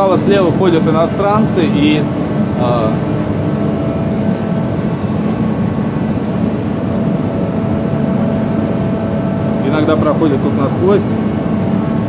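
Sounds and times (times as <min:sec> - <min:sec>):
mechanical drone: 0:00.0 - 0:12.0.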